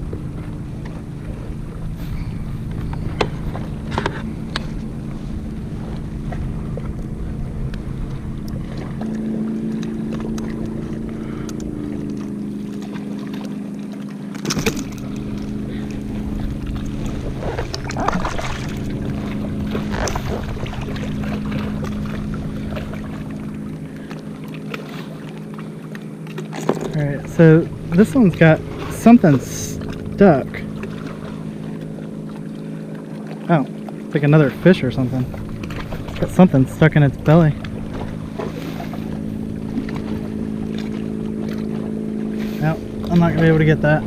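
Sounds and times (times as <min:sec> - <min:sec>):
motorboat engine humming: 0:00.0 - 0:44.0.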